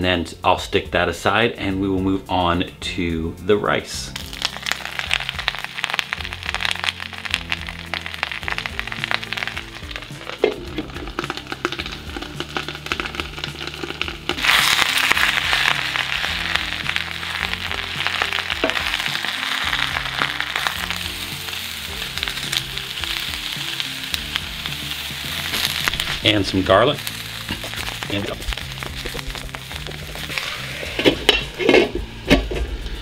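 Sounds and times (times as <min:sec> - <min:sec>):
greens sizzling in a pan: 0:04.1 - 0:32.0
oil crackling in a skillet: 0:04.2 - 0:32.0.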